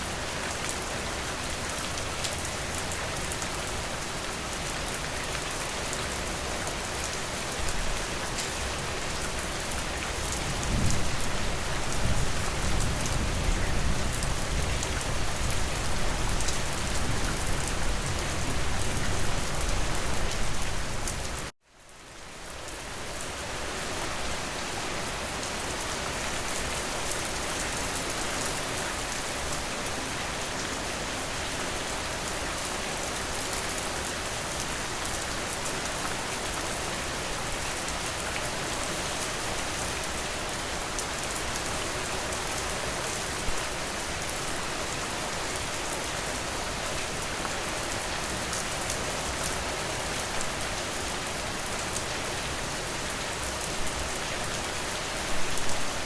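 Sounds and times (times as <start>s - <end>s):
rain falling on a surface: 0.0s - 56.0s.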